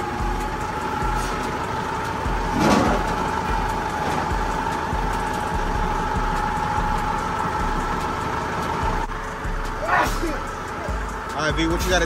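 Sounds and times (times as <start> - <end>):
forklift humming and whining: 0.0 - 12.0.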